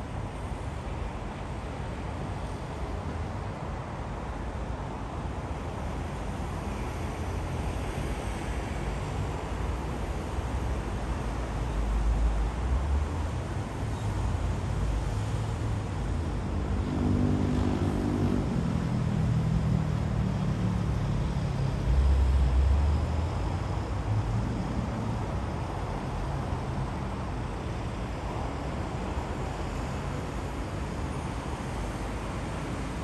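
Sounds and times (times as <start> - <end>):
city road traffic hum: 0.0 - 33.0.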